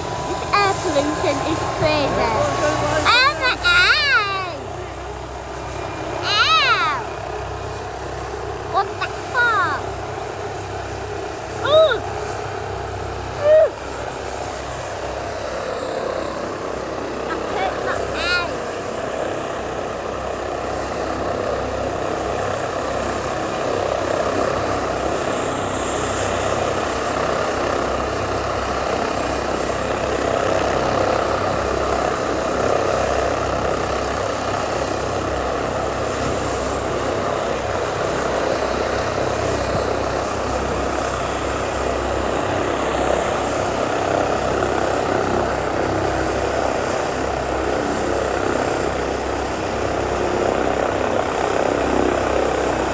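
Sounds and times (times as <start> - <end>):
helicopter engine and rotors: 0.0 - 52.9.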